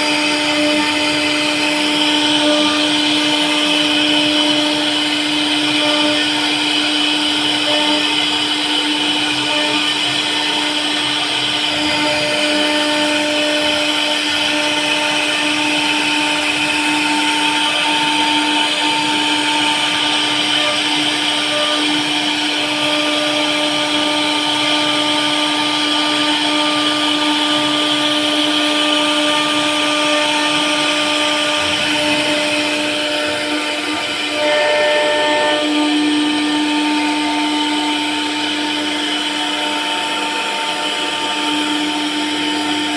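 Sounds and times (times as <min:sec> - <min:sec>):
router spindle carving wood: 0:00.0 - 0:42.9.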